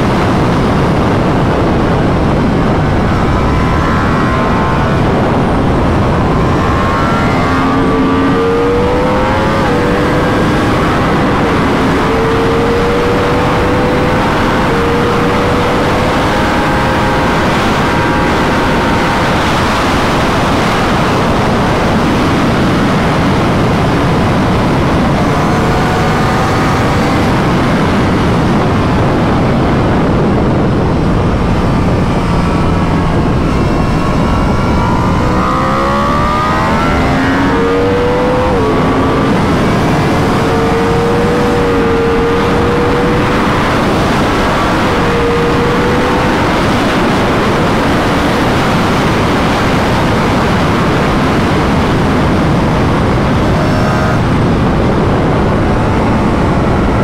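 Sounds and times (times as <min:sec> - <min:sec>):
loud wind noise: 0:00.0 - 0:57.0
motorcycle engine at speed: 0:00.0 - 0:57.0.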